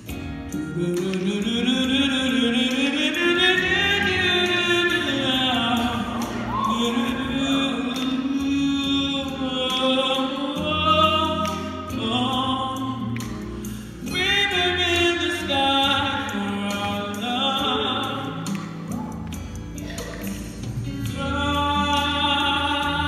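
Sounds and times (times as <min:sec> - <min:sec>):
solo singer into microphone: 0:00.0 - 0:23.0.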